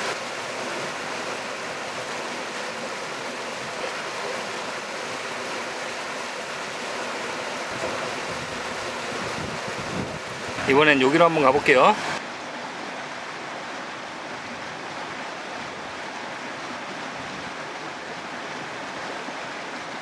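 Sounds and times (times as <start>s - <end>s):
river water rushing over rapid: 0.0s - 20.0s.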